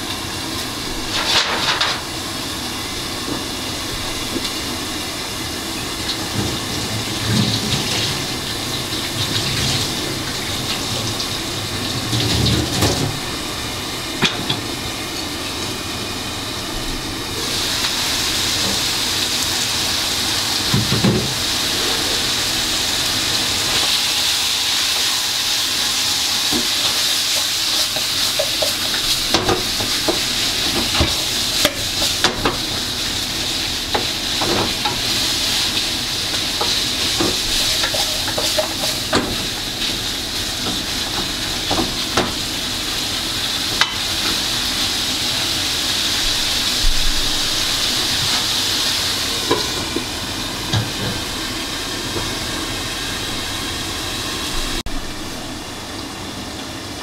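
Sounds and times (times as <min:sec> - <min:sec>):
food sizzling in pot: 0:00.0 - 0:56.0.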